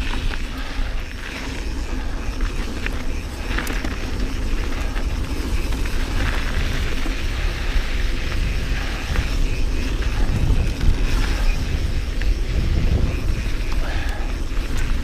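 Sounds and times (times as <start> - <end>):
bike rattling and clicking: 0.0 - 15.0
wind rumbling on microphone: 0.0 - 15.0.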